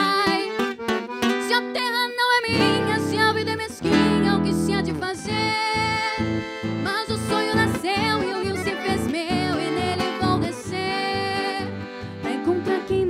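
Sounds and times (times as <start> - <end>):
woman singing: 0.0 - 0.7, 1.4 - 13.0
acoustic guitar: 0.0 - 13.0
piano accordion: 0.0 - 13.0.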